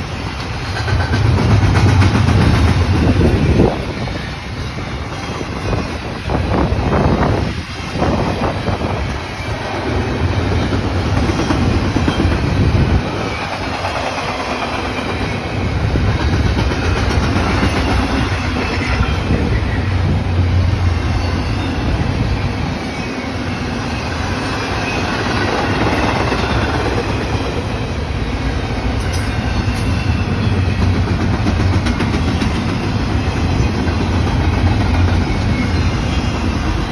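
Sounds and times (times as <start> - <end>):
train wheels rolling on rails: 0.0 - 36.9.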